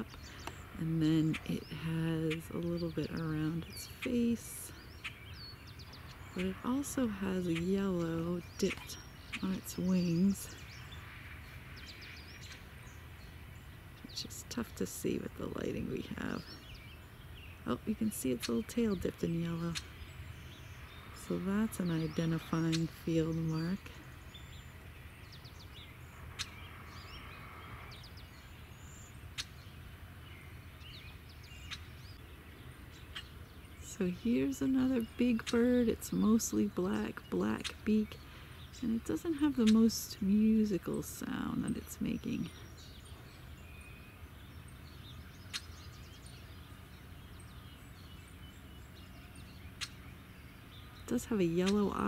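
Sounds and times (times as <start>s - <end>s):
songbirds chirping: 0.0s - 52.0s.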